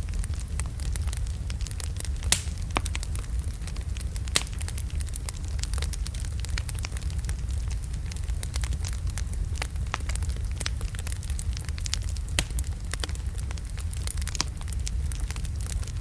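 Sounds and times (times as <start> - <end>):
fire crackling and popping: 0.0 - 16.0
low rumble of fire: 0.0 - 16.0.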